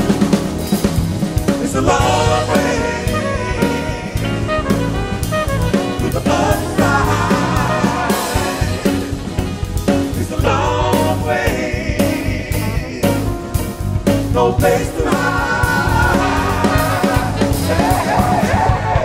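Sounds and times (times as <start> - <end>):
alto saxophone: 0.0 - 19.0
drum kit: 0.0 - 19.0
guitar: 0.0 - 19.0
keyboards: 0.0 - 19.0
upright bass: 0.0 - 19.0
trumpet: 1.6 - 11.7, 12.5 - 19.0.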